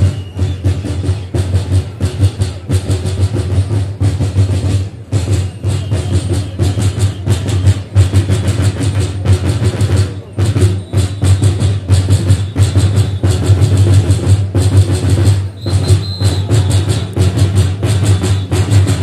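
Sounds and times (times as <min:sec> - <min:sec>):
drums beating fast rhythm: 0:00.0 - 0:19.0.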